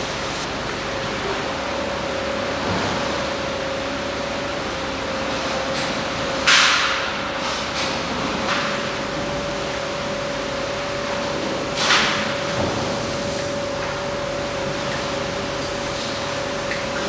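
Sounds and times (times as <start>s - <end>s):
industrial machinery humming: 0.0s - 17.0s.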